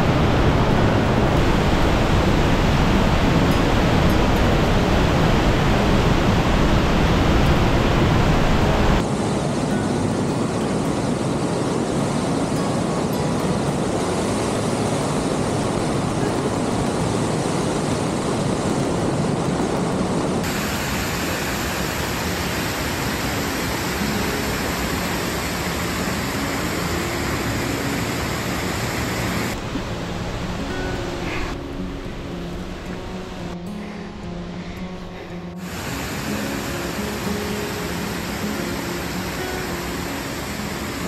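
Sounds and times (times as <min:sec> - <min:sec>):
waterfall rushing through gorge: 0:00.0 - 0:41.0.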